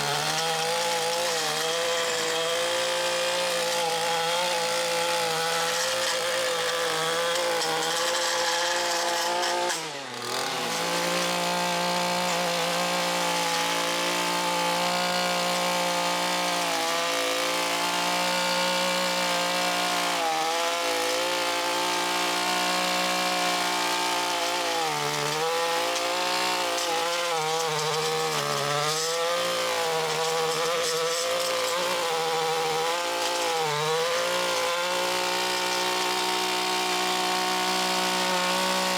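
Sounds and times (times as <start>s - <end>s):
chainsaw cutting limbs: 0.0s - 38.9s.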